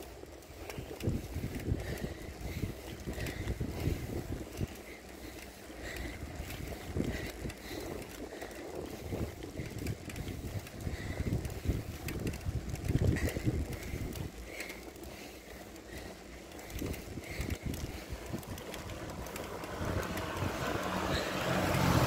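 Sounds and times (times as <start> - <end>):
bicycle rolling on concrete: 0.0 - 22.0
wind buffeting microphone: 0.0 - 22.0.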